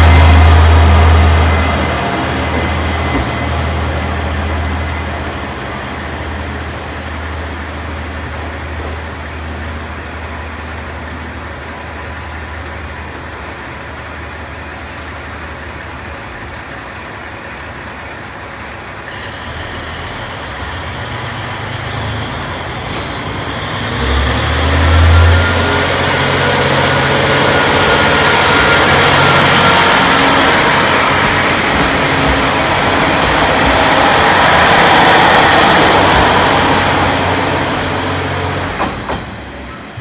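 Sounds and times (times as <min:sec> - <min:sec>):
diesel railcar engine rumbling: 0:00.0 - 0:40.0.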